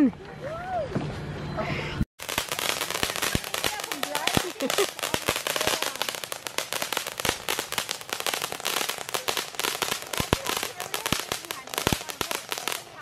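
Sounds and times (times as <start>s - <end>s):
firework hissing and crackling: 2.2s - 13.0s.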